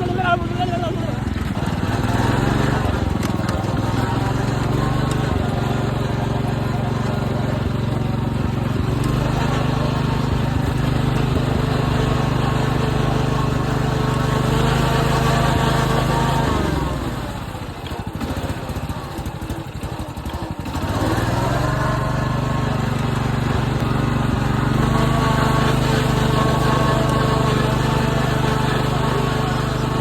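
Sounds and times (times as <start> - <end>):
riding lawn mower engine running: 0.0 - 30.0.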